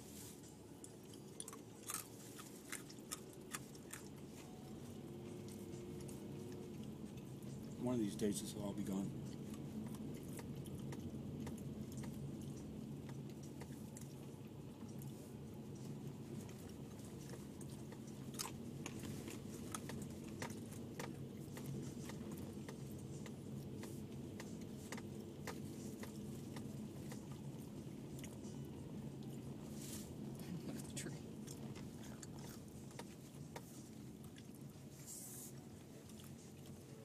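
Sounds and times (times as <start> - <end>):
car engine and tyre hum: 0.0 - 37.0.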